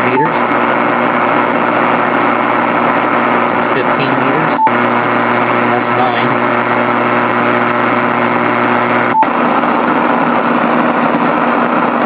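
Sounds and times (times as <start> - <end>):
radio buzzing hiss with hum: 0.0 - 12.0.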